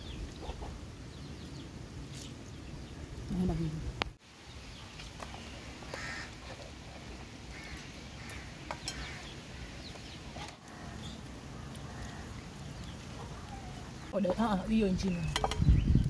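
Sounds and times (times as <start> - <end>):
rural outdoor background noise: 0.0 - 16.0.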